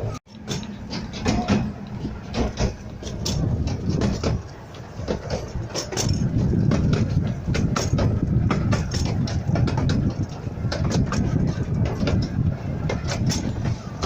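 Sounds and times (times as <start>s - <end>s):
rail clicks and clatter: 0.0s - 14.0s
train wheels rumbling on track: 0.0s - 14.0s.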